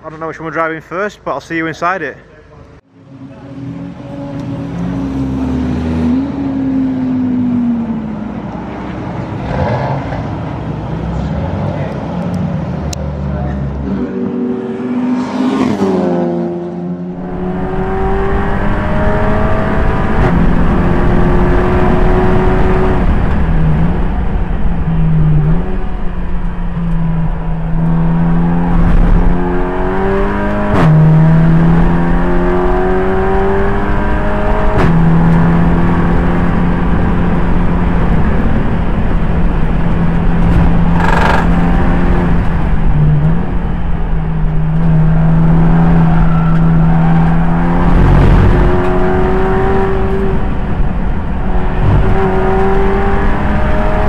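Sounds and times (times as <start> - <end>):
race car engine accelerating: 3.0 - 54.0.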